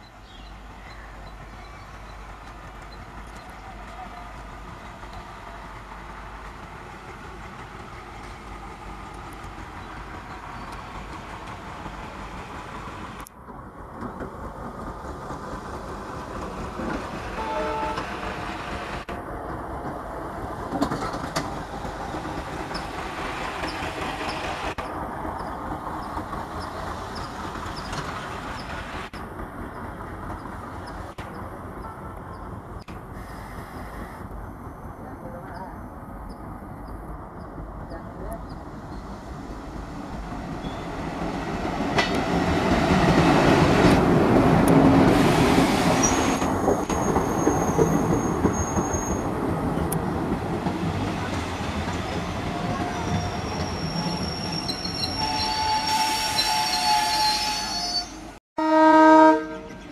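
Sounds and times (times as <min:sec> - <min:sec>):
diesel locomotive approaching: 0:00.0 - 0:59.9.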